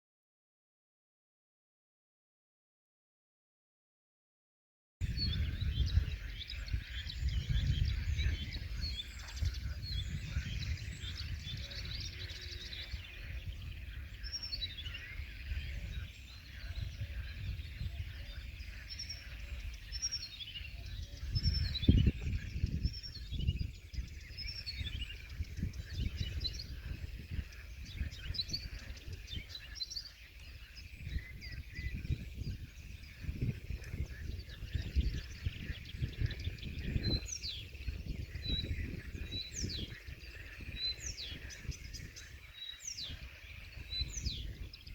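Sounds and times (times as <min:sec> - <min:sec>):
warbler singing: 0:05.0 - 0:44.9.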